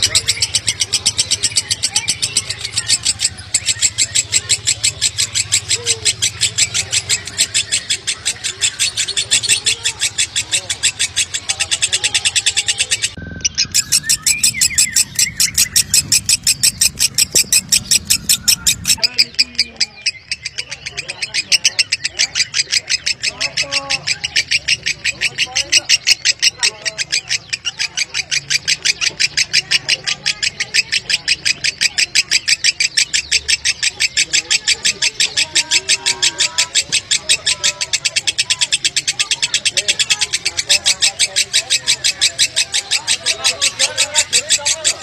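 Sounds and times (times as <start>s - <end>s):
lovebird chattering trill: 0.0s - 45.0s.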